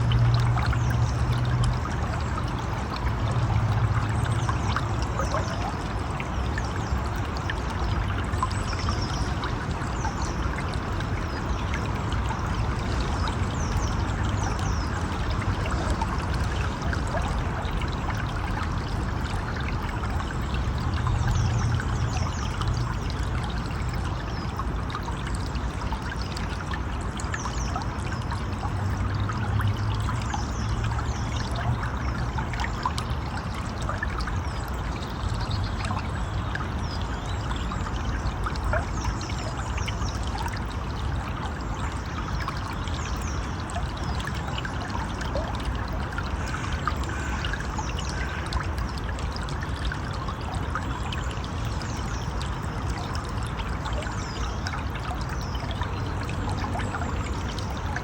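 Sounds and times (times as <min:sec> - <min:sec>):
running water trickling: 0:00.0 - 0:58.0.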